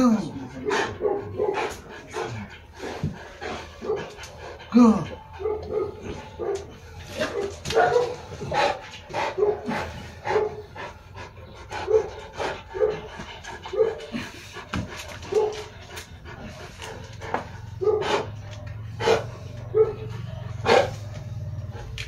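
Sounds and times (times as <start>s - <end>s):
dog panting: 0.2s - 22.0s.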